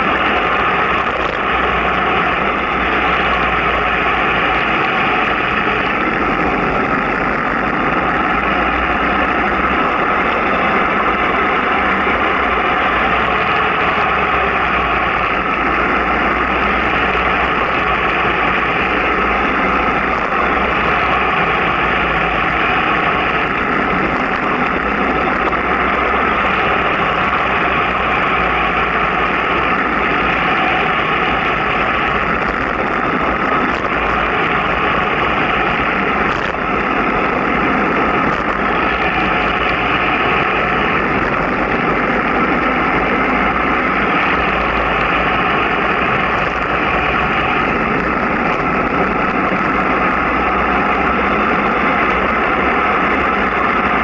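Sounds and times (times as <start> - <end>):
low rumble: 0.0 - 54.0
rushing wind: 0.0 - 54.0
vehicle road noise: 0.0 - 54.0.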